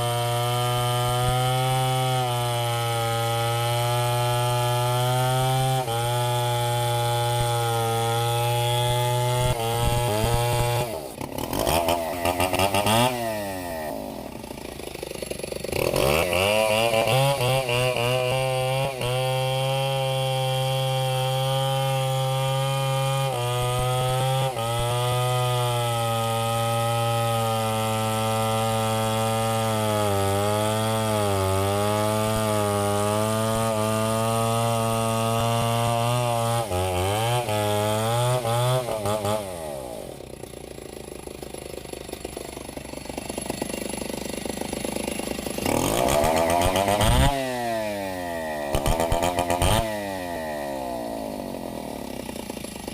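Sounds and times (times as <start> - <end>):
chainsaw cutting log: 0.0 - 52.9.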